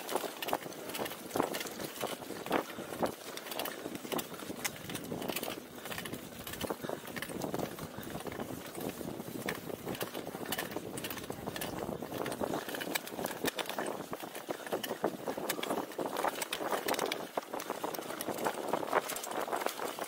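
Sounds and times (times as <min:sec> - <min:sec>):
bike rattling and knocking: 0:00.0 - 0:20.0
bike tyres on dirt: 0:00.0 - 0:20.0.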